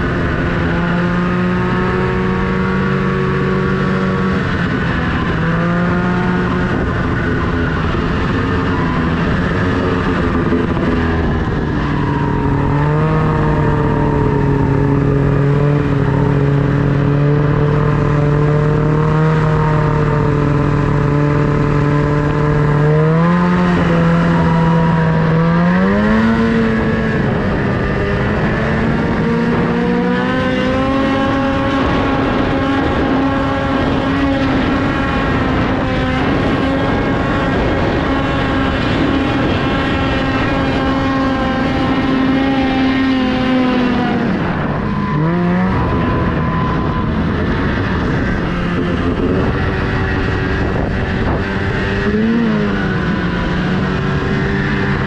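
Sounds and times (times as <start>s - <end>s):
snowmobile engine under throttle: 0.0s - 55.0s.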